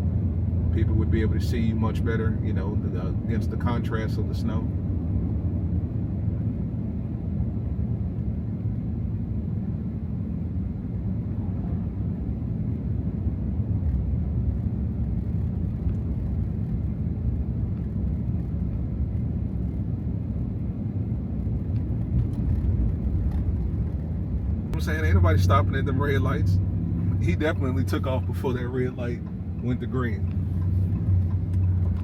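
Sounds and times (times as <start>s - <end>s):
pickup engine rumble: 0.0s - 32.0s
tyres on snowy road: 0.0s - 32.0s.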